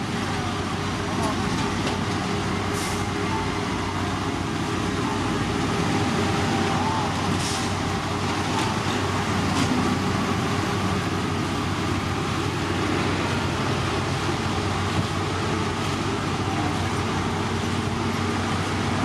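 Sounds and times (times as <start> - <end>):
construction machinery running: 0.0 - 19.0.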